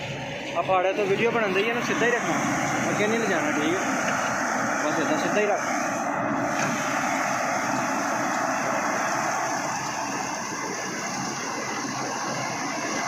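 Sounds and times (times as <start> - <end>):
harvesting machine running: 0.0 - 13.0.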